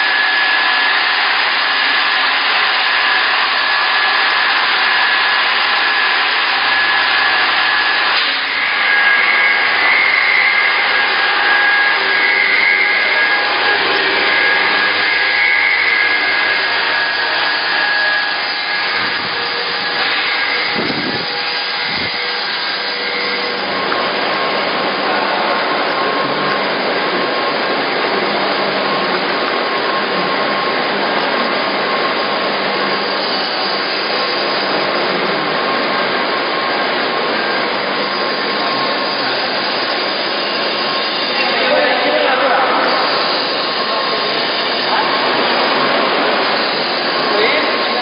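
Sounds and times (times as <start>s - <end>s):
production line machinery hum: 0.0s - 48.0s
thin high whine: 0.0s - 48.0s.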